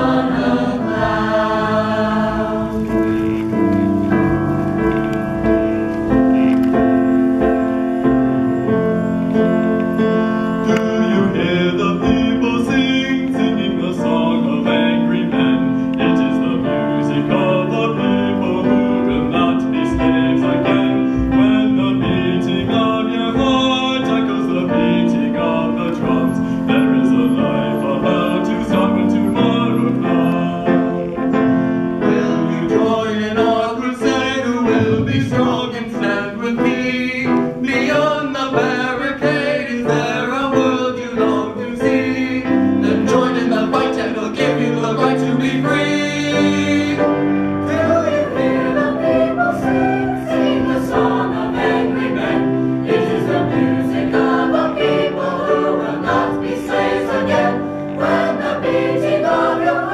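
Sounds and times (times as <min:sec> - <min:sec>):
choir singing: 0:00.0 - 0:59.9
piano accompaniment: 0:00.0 - 0:59.9.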